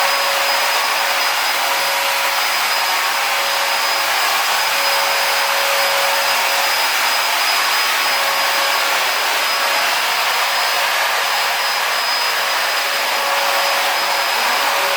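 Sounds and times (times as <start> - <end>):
sprayer blowing hiss: 0.0 - 14.9
thin steady whine: 0.0 - 14.9.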